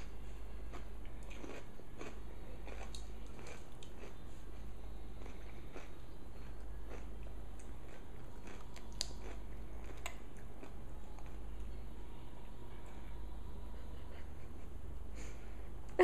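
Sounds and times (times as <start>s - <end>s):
child chewing crunchy pickle: 0.0s - 14.3s
steady low hum: 0.0s - 16.0s.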